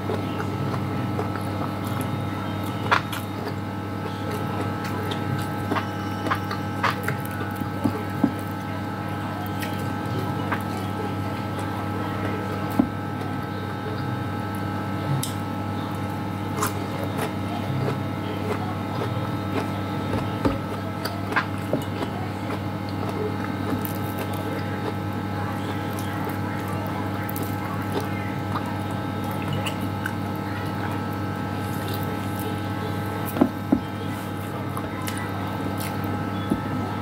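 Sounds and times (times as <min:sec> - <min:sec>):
eating and chewing sounds: 0:00.0 - 0:37.0
kitchen appliance humming: 0:00.0 - 0:37.0.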